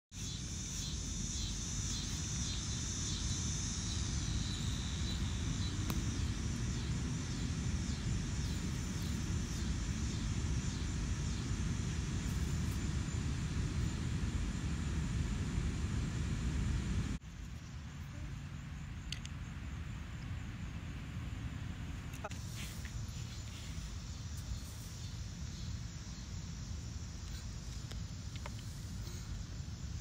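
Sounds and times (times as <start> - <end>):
high pulsing hiss: 0.1 - 30.0
low outdoor rumble: 0.2 - 30.0.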